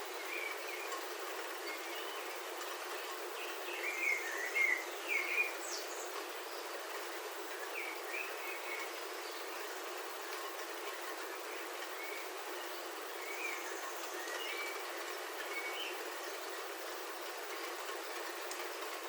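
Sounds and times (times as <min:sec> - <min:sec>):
rain pattering on a roof: 0:00.0 - 0:19.0
birds chirping: 0:01.7 - 0:19.0.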